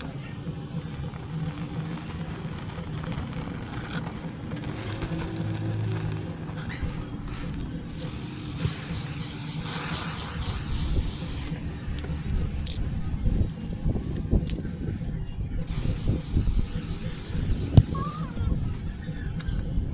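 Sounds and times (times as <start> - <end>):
pressurised air hissing: 0.0 - 11.6, 12.3 - 14.3, 15.7 - 18.4.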